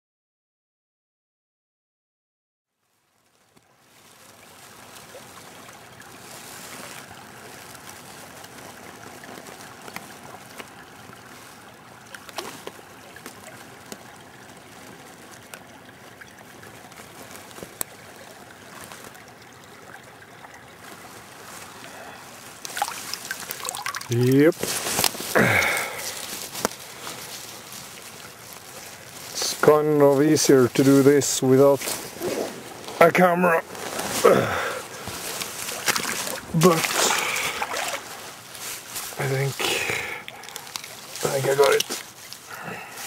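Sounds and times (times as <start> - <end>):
stream water trickling: 2.8 - 43.0
sharp water splashes: 4.0 - 30.0, 33.6 - 43.0.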